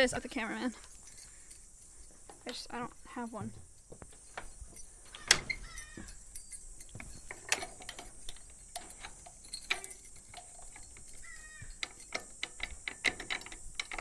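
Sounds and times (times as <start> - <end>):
keys jingling: 0.0 - 14.0
padlock rattling against metal latch: 0.9 - 14.0.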